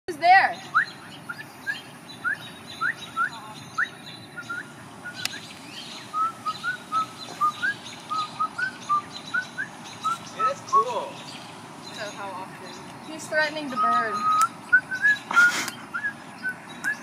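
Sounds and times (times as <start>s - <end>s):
bird chirping: 0.1s - 17.0s
outdoor background hiss: 0.1s - 17.0s.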